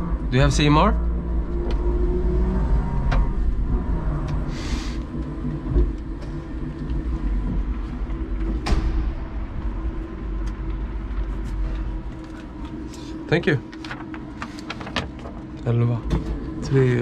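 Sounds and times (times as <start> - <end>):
faint motor hum: 0.0 - 17.0
forklift rumble: 0.0 - 17.0.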